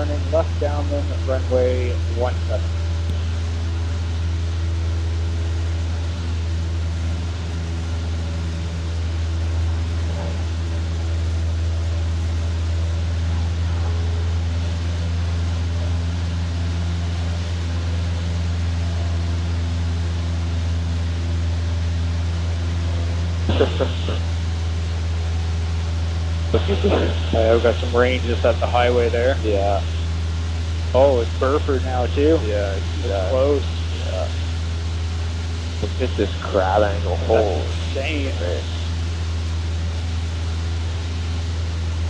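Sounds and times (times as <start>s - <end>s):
light aircraft engine droning: 0.0s - 42.0s.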